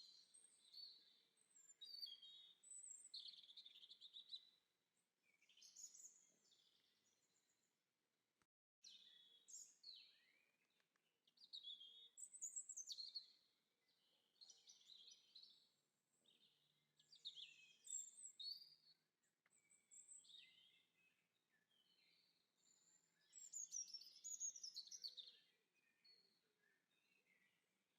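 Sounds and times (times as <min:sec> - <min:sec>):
faint birdsong chirping: 0:00.0 - 0:07.8, 0:08.8 - 0:27.9.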